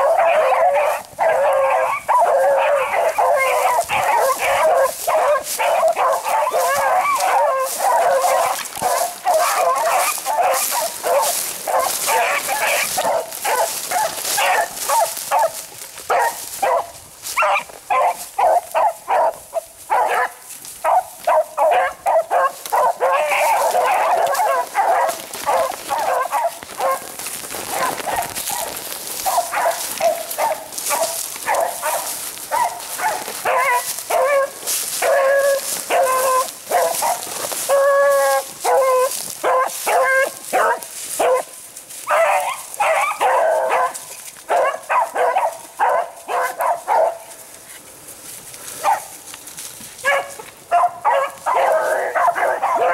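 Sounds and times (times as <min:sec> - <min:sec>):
beagles baying: 0:00.0 - 0:47.4, 0:50.0 - 0:52.9.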